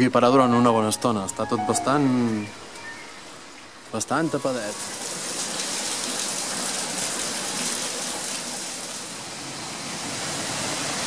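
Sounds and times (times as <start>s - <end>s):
rain falling: 0.9s - 11.0s.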